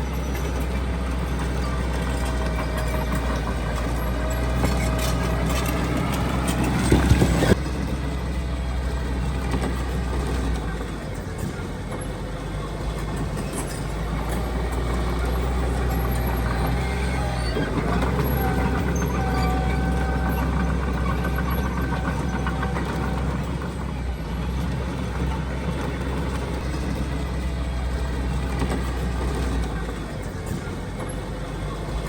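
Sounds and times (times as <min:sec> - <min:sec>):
diesel construction machine running: 0:00.0 - 0:32.0.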